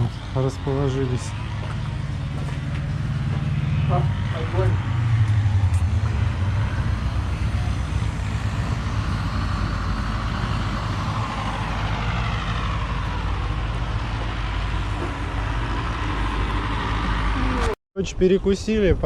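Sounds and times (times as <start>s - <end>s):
vehicle passing: 0.0s - 17.8s
traffic rumble: 0.0s - 19.0s.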